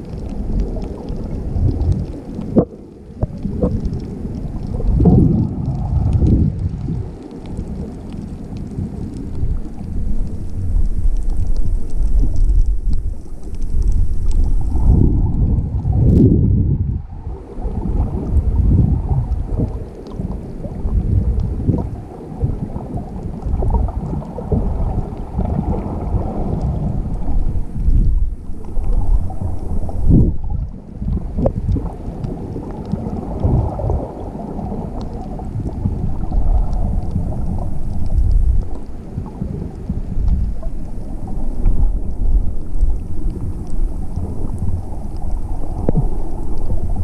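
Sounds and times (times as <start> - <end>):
faint ticks: 0.0 - 15.9, 19.1 - 47.0
muffled underwater rushing: 0.0 - 47.0.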